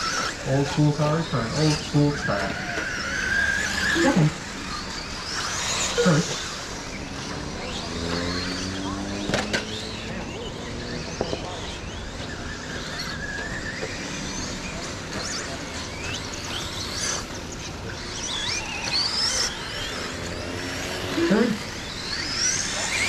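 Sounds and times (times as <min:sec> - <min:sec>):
outdoor noise: 0:00.0 - 0:23.0
rc truck motors whining: 0:00.0 - 0:23.0.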